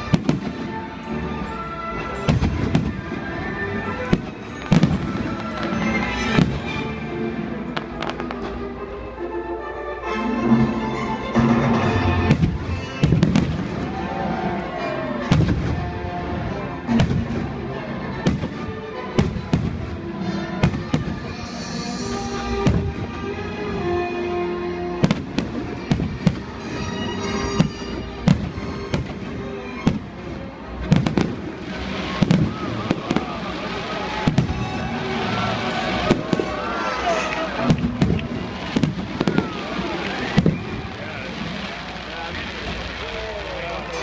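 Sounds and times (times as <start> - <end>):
fireworks bursting: 0.0 - 9.1, 11.3 - 44.0.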